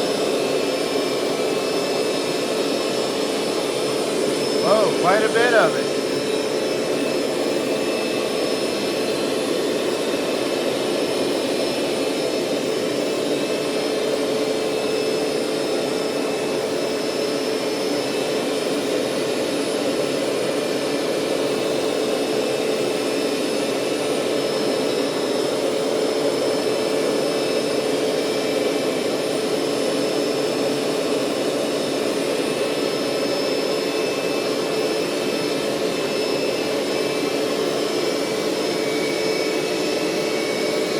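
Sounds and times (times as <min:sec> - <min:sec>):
carpet cleaner motor humming: 0:00.0 - 0:40.9.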